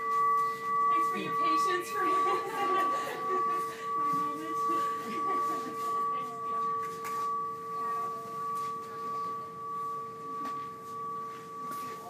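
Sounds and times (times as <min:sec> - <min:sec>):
brass bell ringing: 0:00.0 - 0:12.0.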